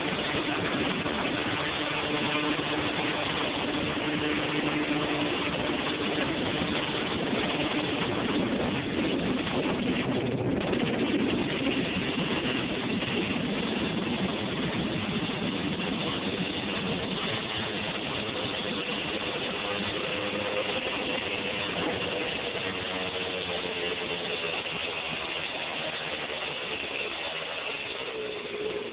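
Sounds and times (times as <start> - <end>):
two-stroke quad engine running: 0.0 - 28.9.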